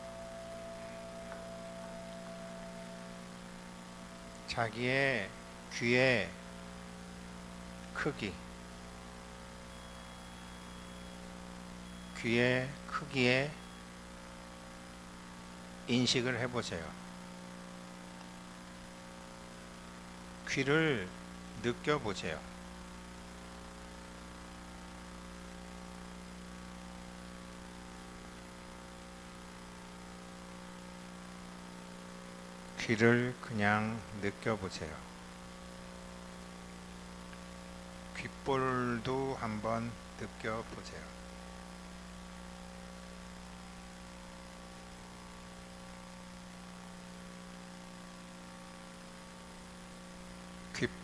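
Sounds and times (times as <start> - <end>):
electrical mains hum: 0.0 - 51.0
faint even hiss: 0.0 - 51.0.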